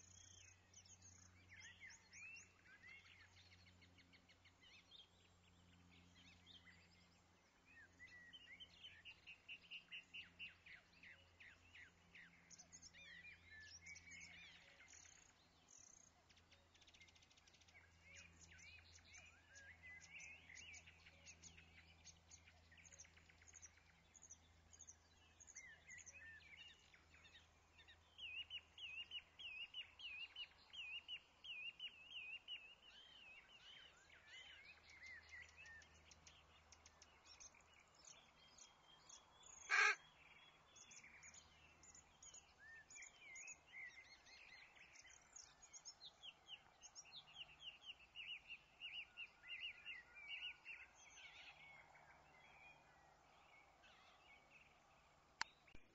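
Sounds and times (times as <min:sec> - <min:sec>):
small birds chirping and twittering: 0:00.0 - 0:55.9.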